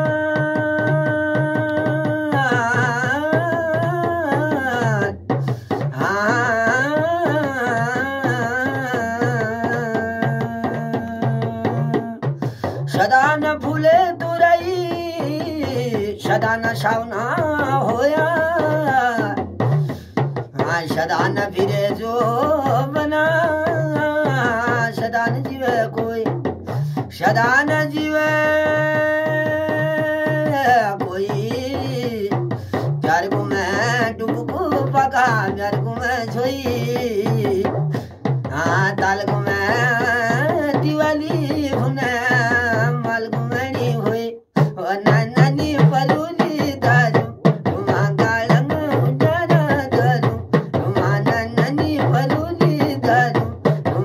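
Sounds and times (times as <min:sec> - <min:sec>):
hand drum beating: 0:00.0 - 0:54.0
man singing folk song: 0:00.0 - 0:54.0.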